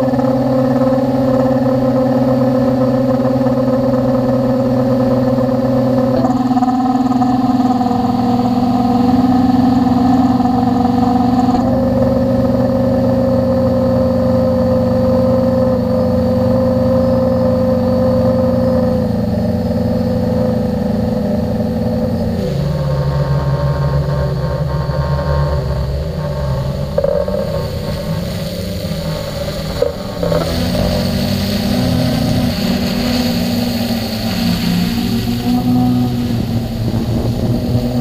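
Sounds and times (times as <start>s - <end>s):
drone motors and propellers: 0.0s - 38.0s.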